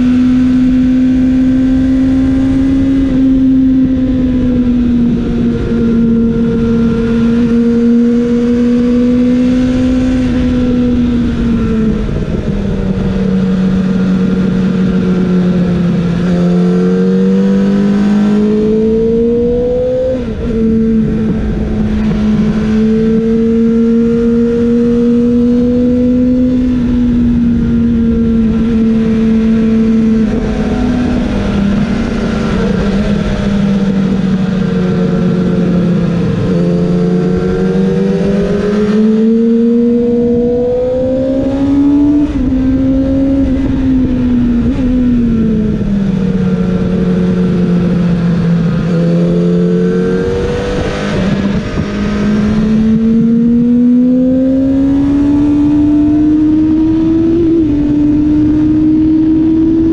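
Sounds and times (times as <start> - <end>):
motorcycle engine at high revs: 0.0 - 59.9
wind rush over microphone: 0.0 - 59.9.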